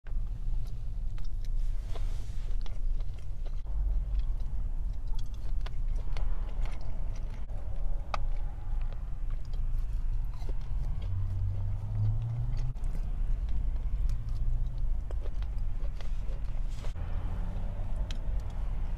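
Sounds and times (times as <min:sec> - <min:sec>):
person chewing food: 0:00.1 - 0:18.9
low rumble: 0:02.5 - 0:18.9.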